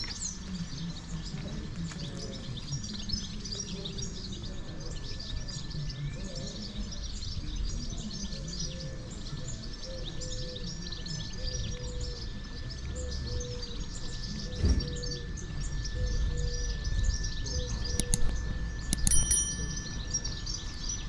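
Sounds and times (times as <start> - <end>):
low background hum: 0.1 - 21.0.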